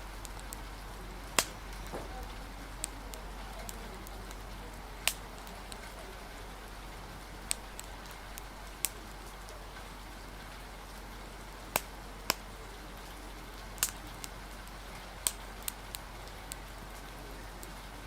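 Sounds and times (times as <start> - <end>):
rain hissing: 0.0 - 18.0
wood fire crackling: 0.0 - 18.0.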